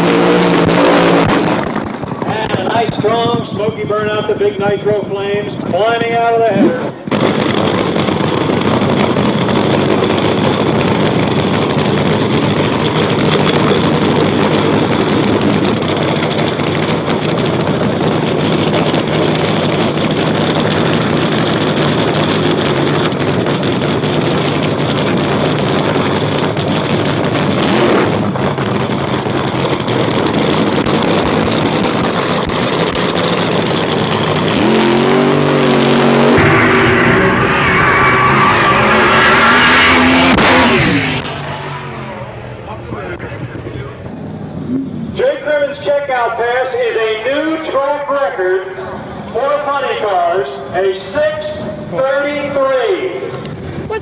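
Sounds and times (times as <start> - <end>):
racing car engine running loud: 0.0 - 54.0.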